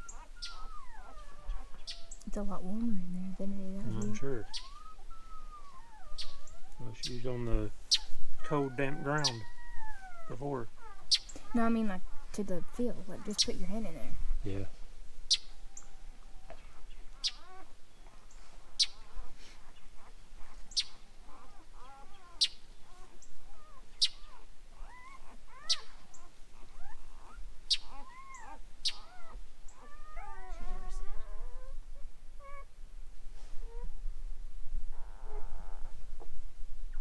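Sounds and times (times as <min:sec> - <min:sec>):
puppies squeaking and whining: 0:00.0 - 0:14.4, 0:15.3 - 0:32.7, 0:34.9 - 0:36.0.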